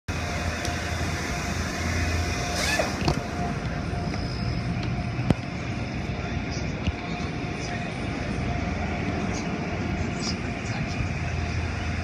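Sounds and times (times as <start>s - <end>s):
car wash machinery humming: 0.1s - 12.0s.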